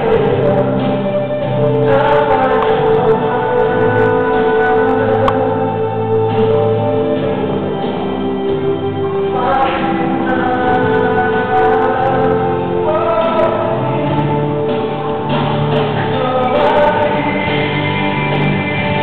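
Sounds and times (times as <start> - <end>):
instrumental backing: 0.0 - 19.0.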